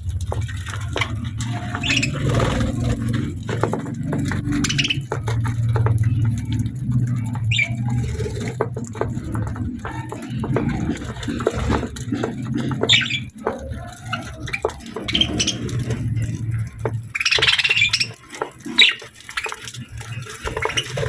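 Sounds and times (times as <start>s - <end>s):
budgies pecking at food: 0.0s - 21.0s.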